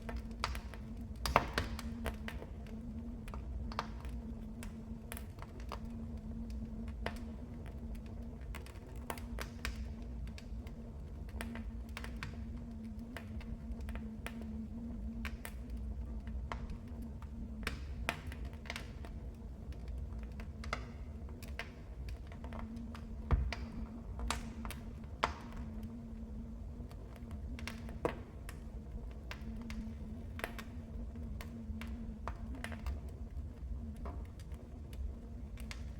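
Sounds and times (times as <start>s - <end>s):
low rumble of flames: 0.0s - 35.9s
wood fire crackling: 0.0s - 35.9s.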